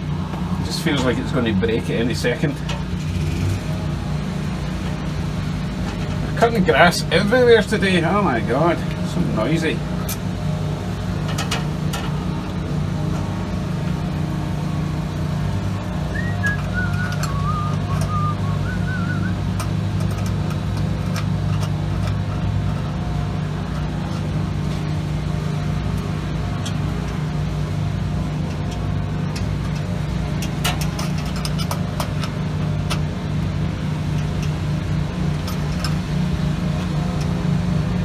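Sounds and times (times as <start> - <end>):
lawn mower engines droning: 0.0 - 38.0.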